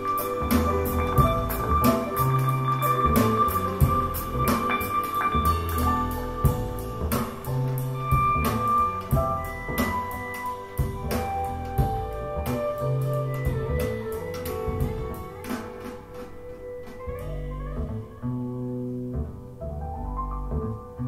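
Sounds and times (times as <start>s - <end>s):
jazz through speakers: 0.0s - 21.0s
walking bass line: 0.0s - 21.0s.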